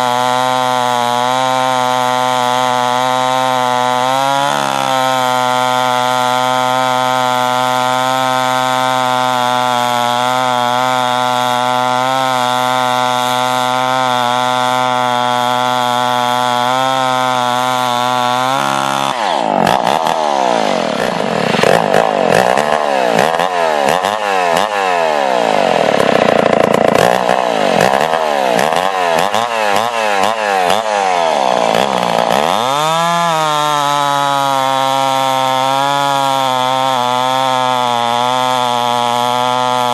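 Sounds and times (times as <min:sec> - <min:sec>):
two-stroke chainsaw running: 0:00.0 - 0:39.9.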